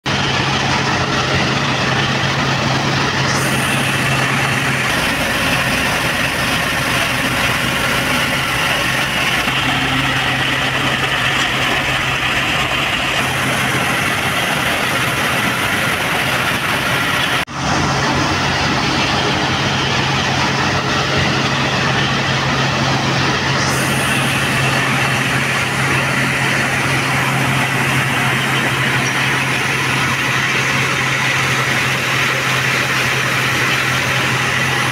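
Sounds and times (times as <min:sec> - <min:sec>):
tractor engine hum: 0:00.0 - 0:34.9
threshing machine rushing: 0:00.1 - 0:34.9.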